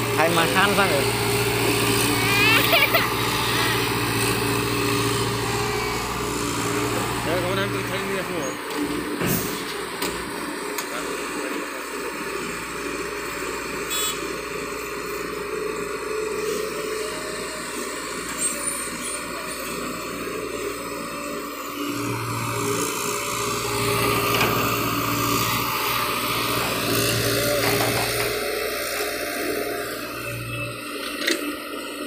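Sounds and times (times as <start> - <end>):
excavator diesel engine: 0.0 - 32.0.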